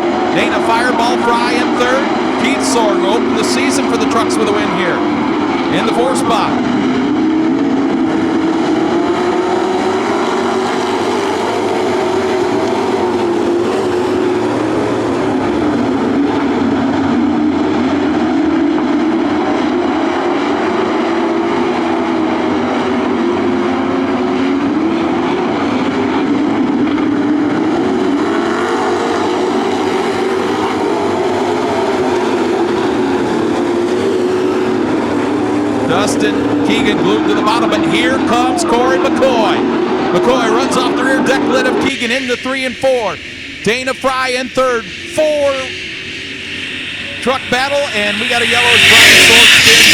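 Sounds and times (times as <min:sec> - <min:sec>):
truck engines racing: 0:00.0 - 0:49.9.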